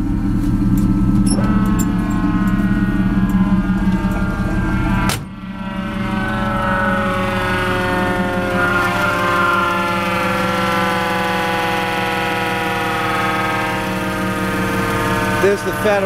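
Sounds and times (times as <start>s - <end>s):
siren winding down: 0.7s - 16.0s.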